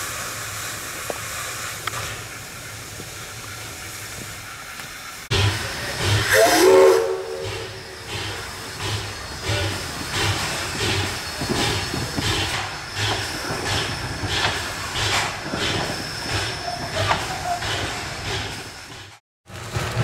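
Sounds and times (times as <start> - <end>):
steady steam hiss: 0.0 - 19.2
steam locomotive exhaust beats: 0.0 - 20.0.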